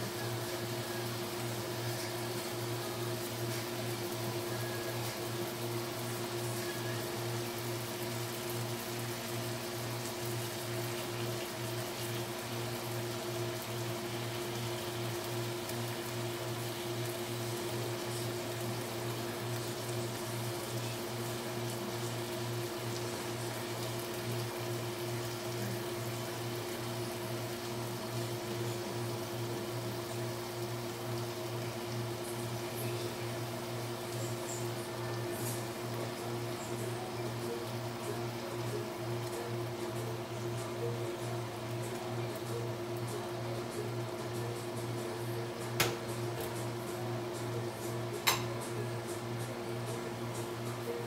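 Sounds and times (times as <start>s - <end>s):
meat sizzling in a frying pan: 0.0s - 51.0s.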